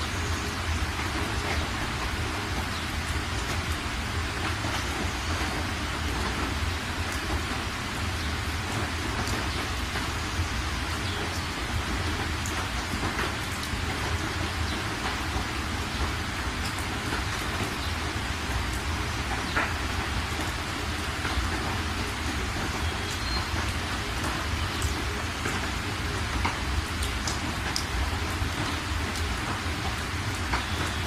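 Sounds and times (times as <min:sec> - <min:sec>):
rain on car windshield: 0:00.0 - 0:31.0.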